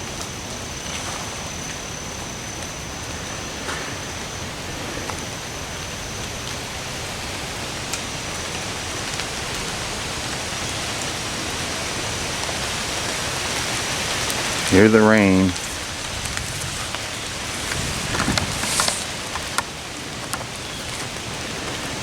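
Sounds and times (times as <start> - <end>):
rain hiss: 0.0 - 22.0.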